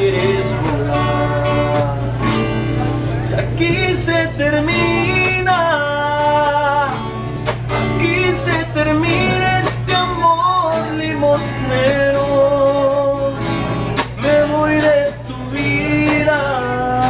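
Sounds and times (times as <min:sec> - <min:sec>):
acoustic guitar strumming: 0:00.0 - 0:17.0
man singing: 0:00.0 - 0:17.0.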